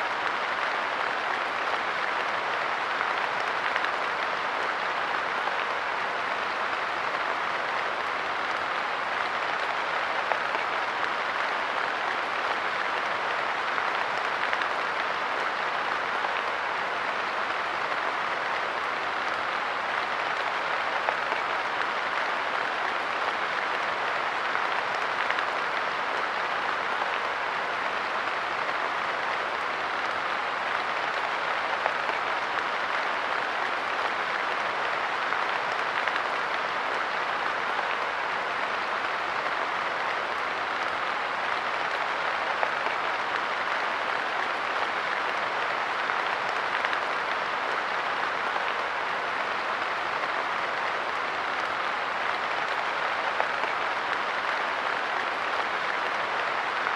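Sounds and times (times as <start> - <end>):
light rain pattering: 0.0 - 56.9.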